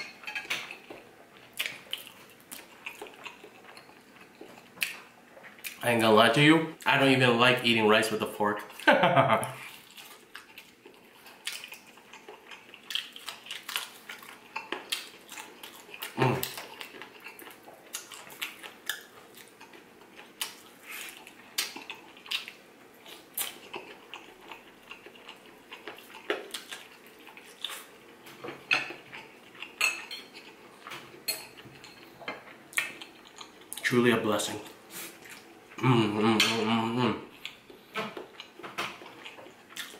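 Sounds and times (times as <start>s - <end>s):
chewing fried chicken: 0.3s - 5.8s, 8.6s - 39.9s.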